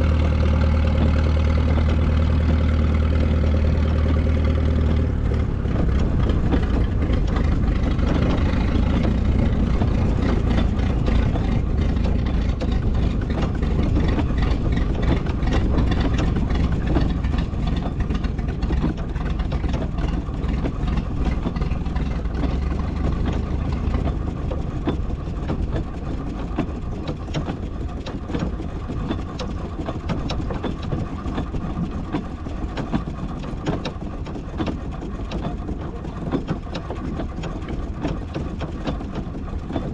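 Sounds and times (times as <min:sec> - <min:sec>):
low engine hum: 0:00.0 - 0:39.9
gearing clattering: 0:00.8 - 0:39.9.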